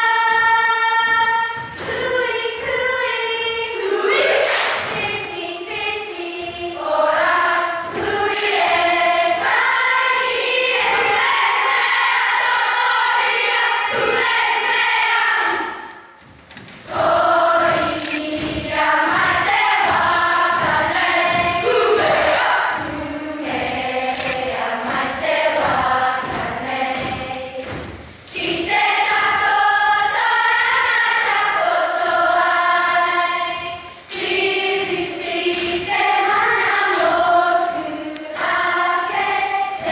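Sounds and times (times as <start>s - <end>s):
children's choir singing: 0.0s - 39.9s
steady beat of thuds: 0.0s - 39.9s.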